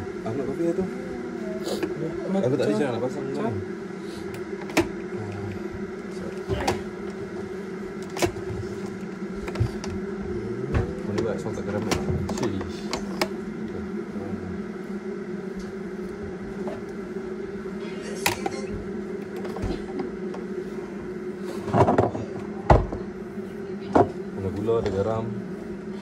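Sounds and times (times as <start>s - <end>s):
fainter higher hum: 0.0s - 26.0s
steady low hum: 0.0s - 26.0s.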